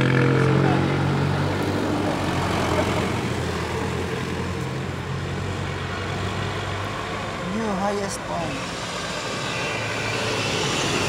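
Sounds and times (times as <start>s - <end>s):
truck engine passing: 0.0s - 11.0s
vehicles approaching with tyre noise: 0.0s - 11.0s.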